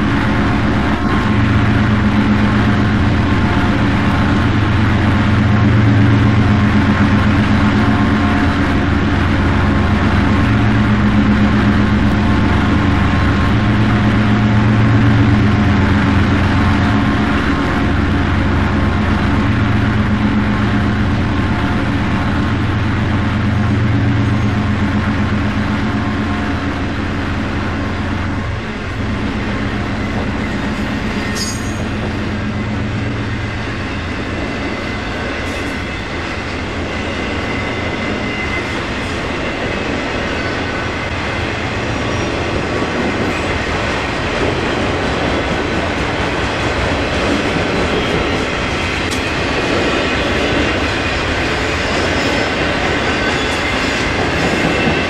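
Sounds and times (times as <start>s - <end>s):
locomotive engine drone: 0.0s - 55.0s
train wheels on rails: 0.0s - 55.0s.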